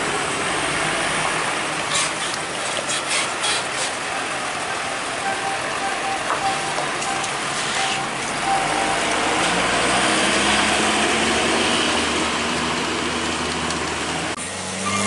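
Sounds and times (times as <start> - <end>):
truck diesel engine: 0.0 - 15.0
truck tyres rumbling: 0.0 - 15.0.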